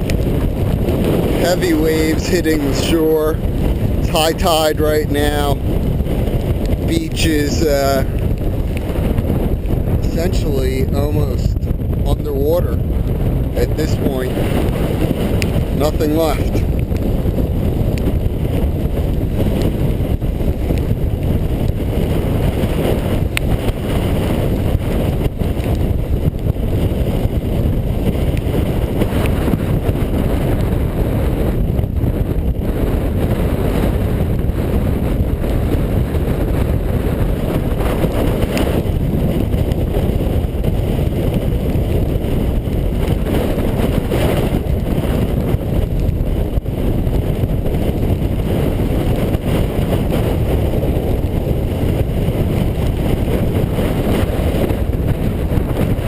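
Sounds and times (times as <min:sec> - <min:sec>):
heavy surf breaking: 0:00.0 - 0:56.0
strong wind on microphone: 0:00.0 - 0:56.0.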